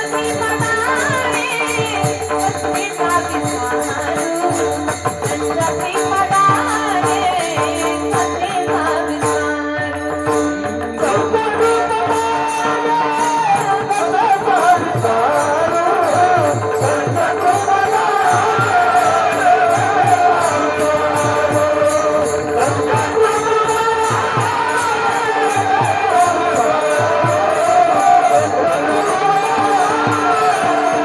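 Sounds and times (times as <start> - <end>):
devotional music: 0.0 - 31.0
jangling hand percussion: 0.0 - 31.0.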